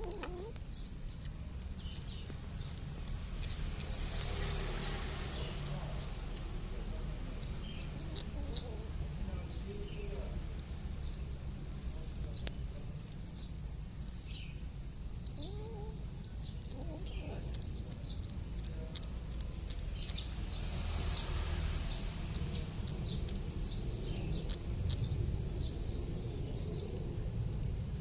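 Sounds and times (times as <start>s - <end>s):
kitten chewing wet clicks: 0.0s - 28.0s.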